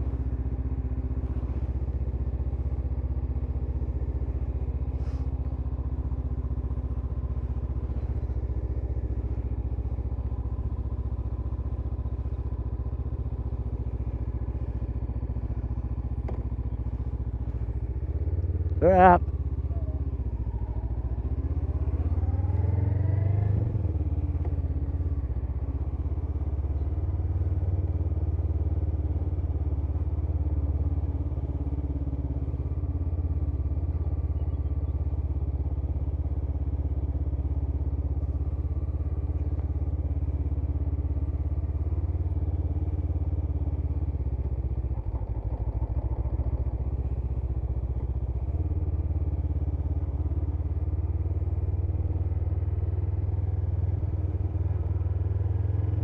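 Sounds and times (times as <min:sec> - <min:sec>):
motorcycle engine pulling away: 0:00.0 - 0:56.0.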